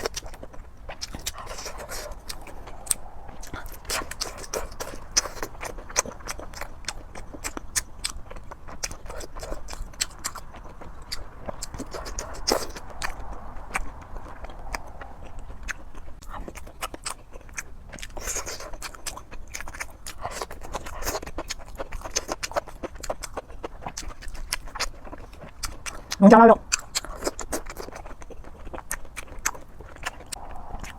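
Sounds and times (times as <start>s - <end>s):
person chewing: 0.0s - 30.9s.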